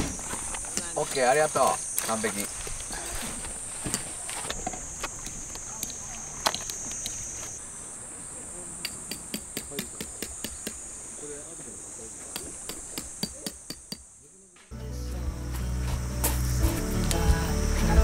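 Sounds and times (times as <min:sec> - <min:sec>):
high-pitched insect drone: 0:00.0 - 0:07.8, 0:08.9 - 0:18.0.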